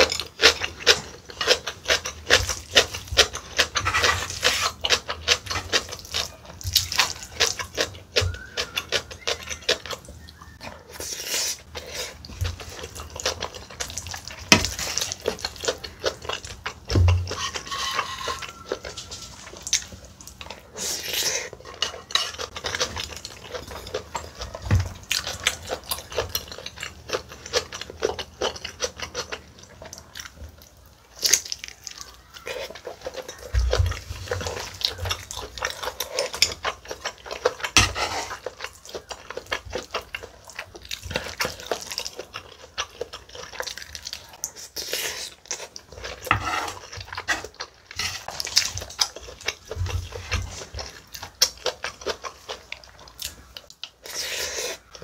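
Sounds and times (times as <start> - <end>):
close chewing with mouth clicks: 0.0 - 55.0.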